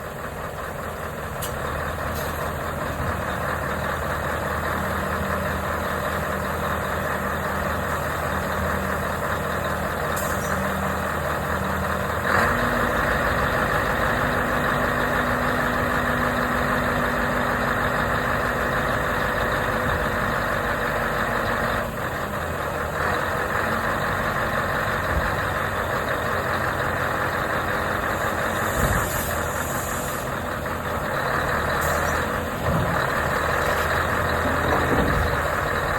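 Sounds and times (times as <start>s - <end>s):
diesel truck engine idling: 0.0s - 35.9s.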